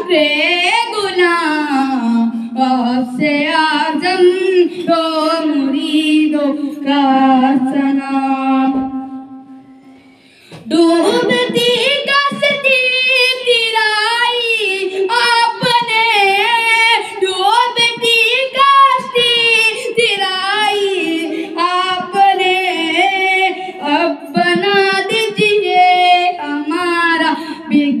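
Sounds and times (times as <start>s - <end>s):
boy singing: 0.0s - 9.6s, 10.5s - 28.0s.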